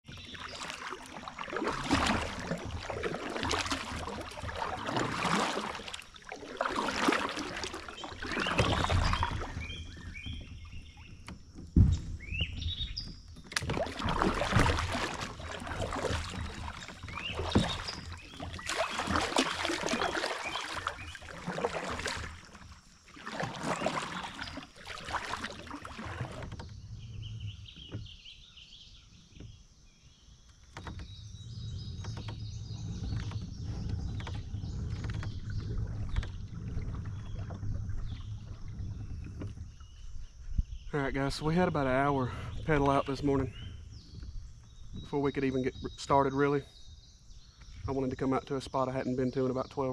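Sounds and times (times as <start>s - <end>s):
kayak paddle strokes in water: 0.0s - 46.6s
birds chirping: 0.1s - 49.9s.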